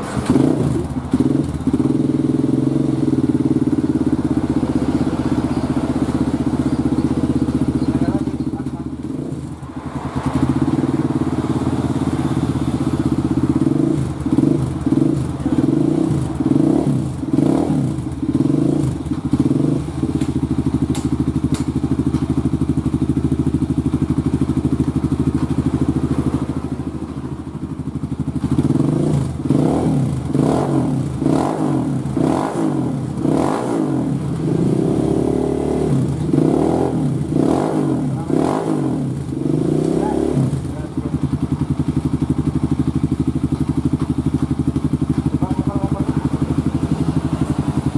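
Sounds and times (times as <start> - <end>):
motorcycle engine idling: 0.0 - 47.9
motorcycle engine revving: 0.0 - 47.9.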